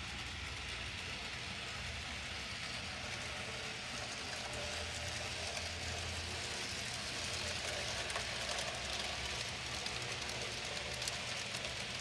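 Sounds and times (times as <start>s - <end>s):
model steam locomotive running: 0.0s - 12.0s.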